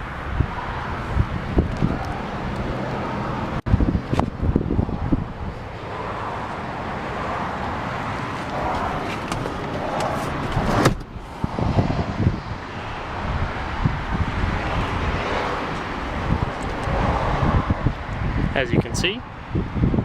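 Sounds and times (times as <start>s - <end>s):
passing traffic: 0.0s - 20.0s.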